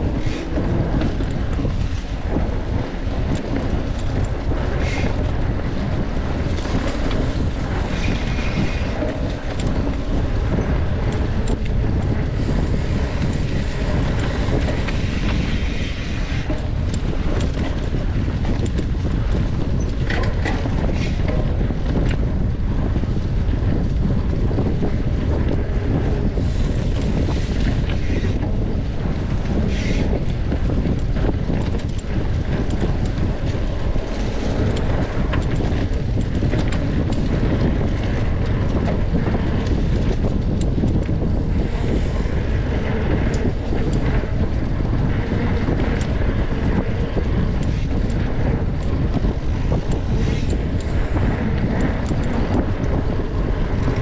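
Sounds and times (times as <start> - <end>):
bike clicks and rattles: 0.0 - 54.0
wind buffeting microphone: 0.0 - 54.0.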